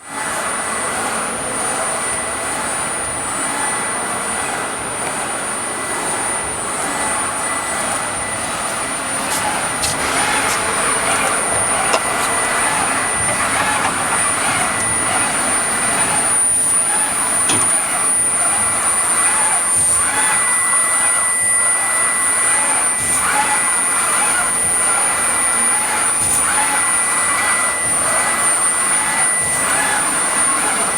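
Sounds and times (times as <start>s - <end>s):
high spindle whine: 0.0s - 30.9s
router machine running: 0.0s - 30.9s.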